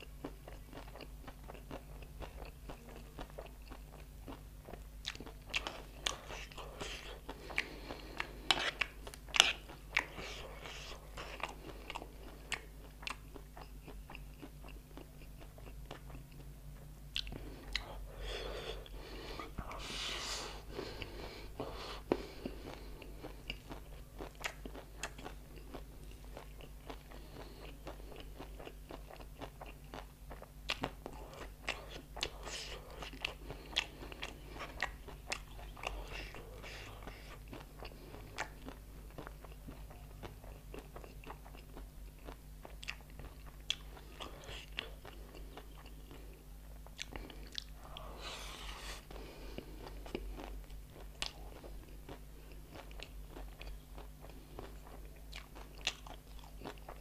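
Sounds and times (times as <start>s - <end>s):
crunchy snack being chewed: 0.0s - 16.5s, 22.4s - 57.0s.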